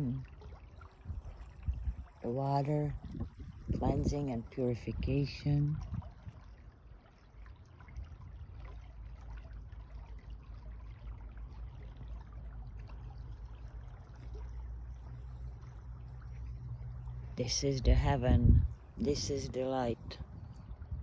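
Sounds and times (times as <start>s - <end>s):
steady low rumble: 0.0s - 21.0s
water trickling: 0.0s - 21.0s.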